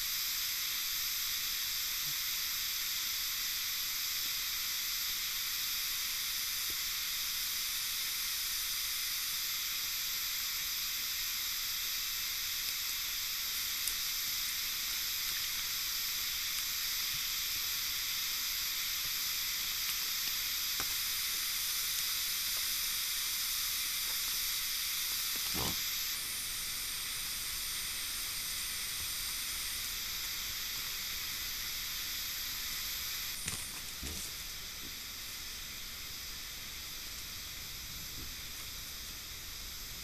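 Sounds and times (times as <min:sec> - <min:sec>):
night insects chorus: 0:00.0 - 0:40.0.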